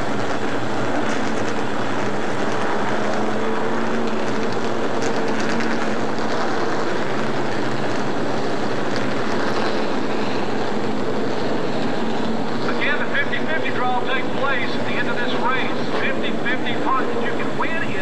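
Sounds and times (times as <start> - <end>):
truck engines droning: 0.0 - 18.0.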